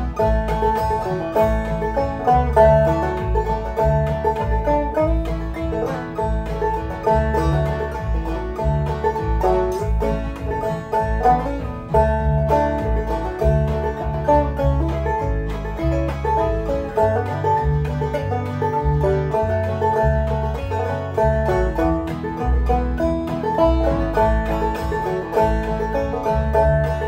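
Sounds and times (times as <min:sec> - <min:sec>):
backing track with bass line: 0:00.0 - 0:27.0
clawhammer banjo playing: 0:00.0 - 0:27.0.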